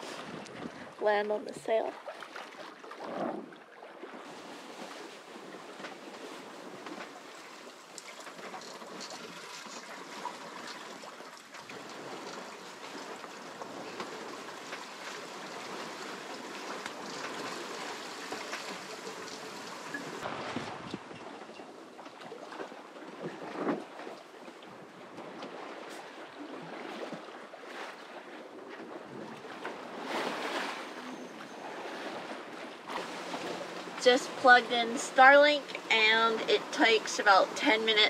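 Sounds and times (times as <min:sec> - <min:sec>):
water rushing past hull: 0:00.0 - 0:38.0.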